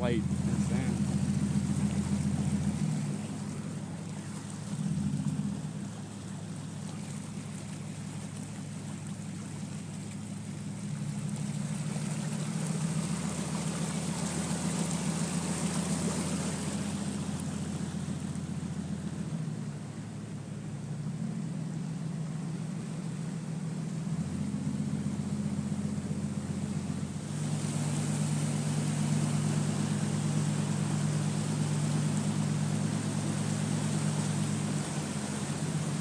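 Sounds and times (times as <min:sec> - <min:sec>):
truck engine running: 0:00.0 - 0:36.0
water spraying against truck: 0:00.0 - 0:36.0.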